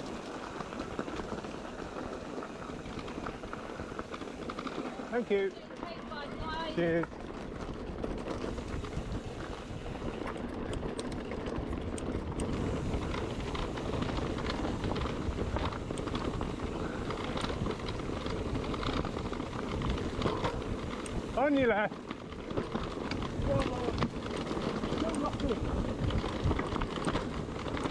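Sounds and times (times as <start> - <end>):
bike parts rattling and clicking: 0.0 - 27.9
bike tyres rumbling on dirt: 0.0 - 27.9.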